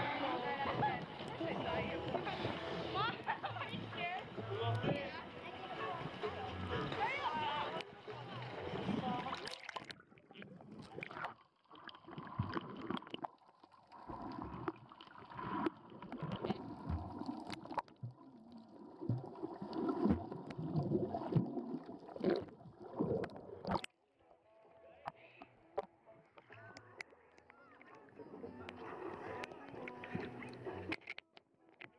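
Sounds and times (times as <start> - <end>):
seawater sloshing and gurgling: 0.0 - 23.9, 27.8 - 31.0.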